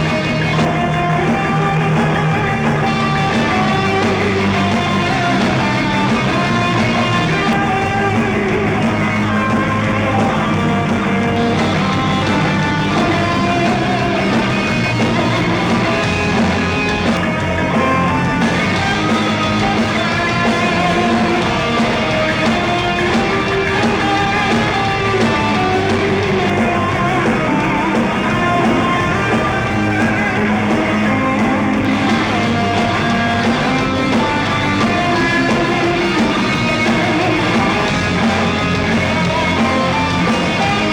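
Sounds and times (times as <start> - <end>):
electric guitar melody: 0.0 - 40.9
live rock band playing: 0.0 - 40.9.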